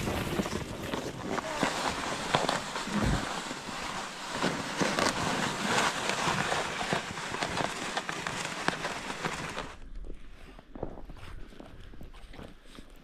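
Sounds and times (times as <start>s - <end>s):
footsteps crunching through snow: 0.0s - 12.8s.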